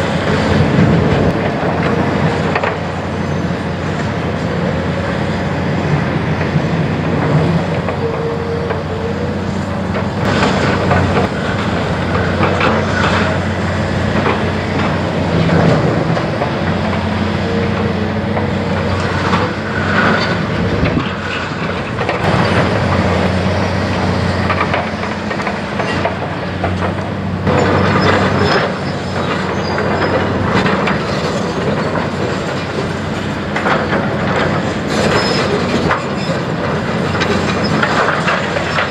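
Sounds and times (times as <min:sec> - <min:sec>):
excavator diesel engines running: 0:00.0 - 0:38.9.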